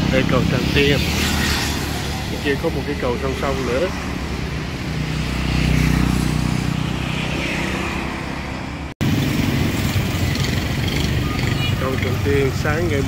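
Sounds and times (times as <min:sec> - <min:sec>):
motorbike passing by: 0:00.0 - 0:13.0.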